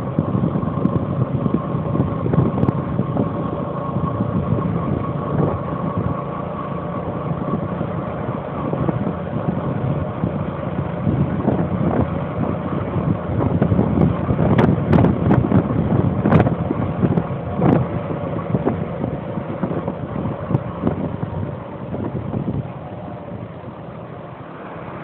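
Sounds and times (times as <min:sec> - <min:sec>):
engine idling rough rumble: 0:00.0 - 0:25.0
faint steady whine: 0:00.0 - 0:25.0.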